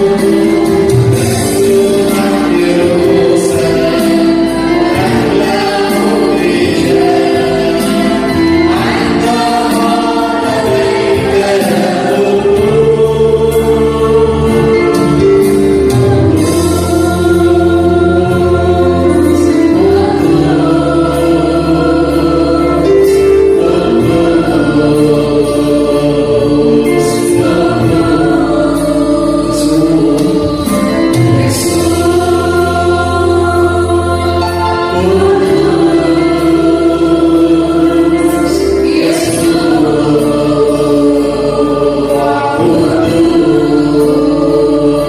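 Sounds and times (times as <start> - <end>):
choir singing a hymn: 0.0 - 45.0
held bass notes: 0.0 - 45.0.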